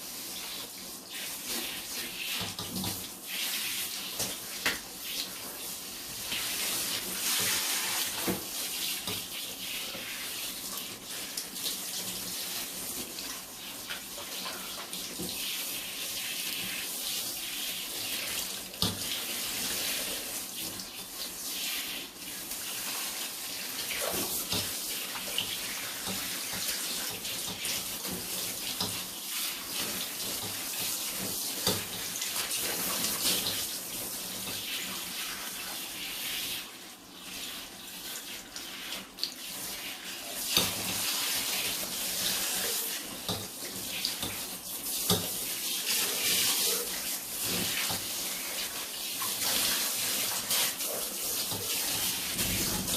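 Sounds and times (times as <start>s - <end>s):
water running from a tap: 0.0s - 52.9s.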